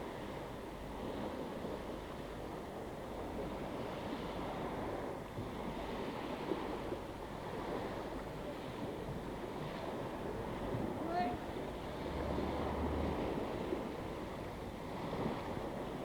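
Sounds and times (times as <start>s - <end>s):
wind: 0.0s - 16.0s
small waves washing: 1.0s - 16.0s.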